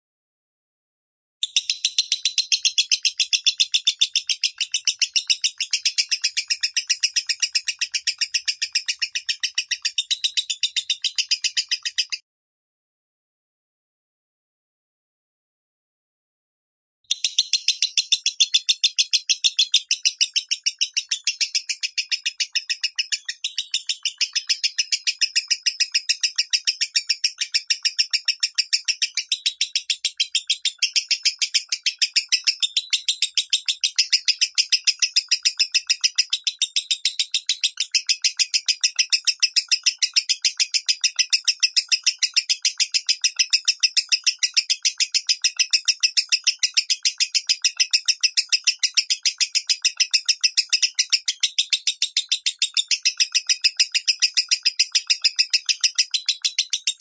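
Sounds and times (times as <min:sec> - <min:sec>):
lovebird chirping rapidly: 0:01.4 - 0:12.2, 0:17.1 - 0:57.0.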